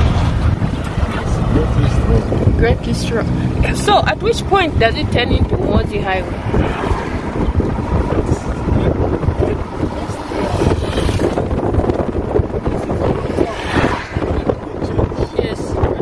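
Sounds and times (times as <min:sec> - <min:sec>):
car rumble: 0:00.0 - 0:16.0
wind buffeting microphone: 0:00.0 - 0:16.0.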